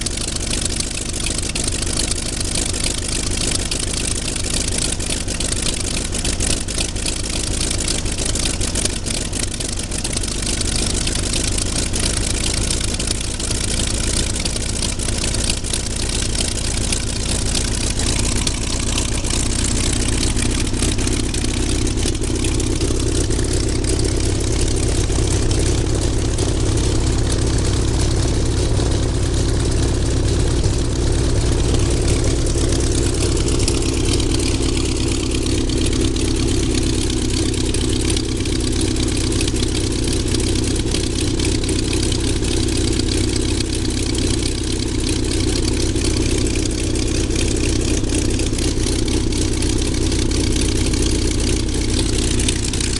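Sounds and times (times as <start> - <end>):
piston aircraft engine idling: 0.0 - 52.9.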